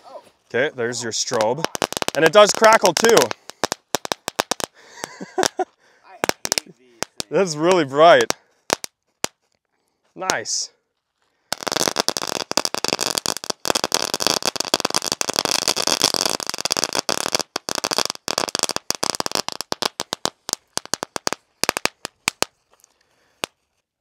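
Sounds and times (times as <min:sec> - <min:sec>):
ground firework crackling pops: 0:01.0 - 0:09.6, 0:10.2 - 0:10.7, 0:11.5 - 0:23.6.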